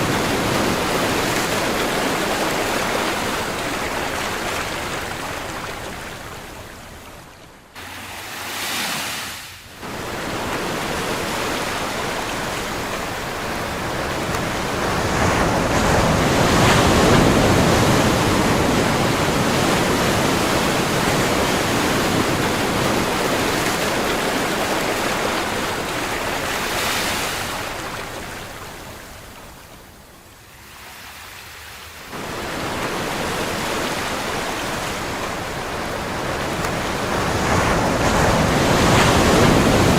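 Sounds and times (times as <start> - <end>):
ocean surf waves: 0.0 - 39.9.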